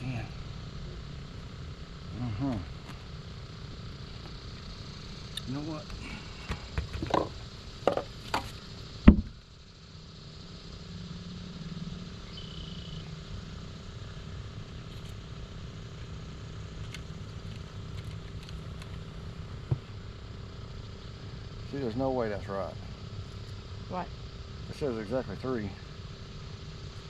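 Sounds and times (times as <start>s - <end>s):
low motor hum: 0.0s - 27.0s.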